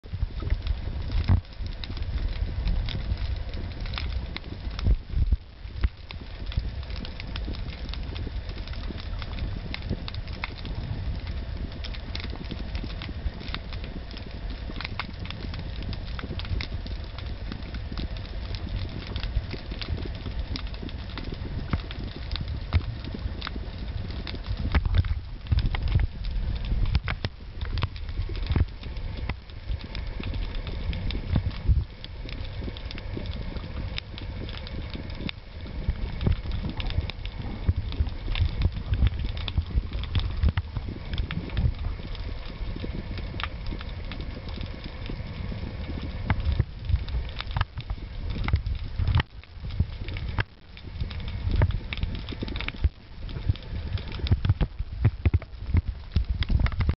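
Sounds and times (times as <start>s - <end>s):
fish clicking on coral underwater: 0.0s - 56.9s
underwater rumble of moving water: 0.0s - 56.9s.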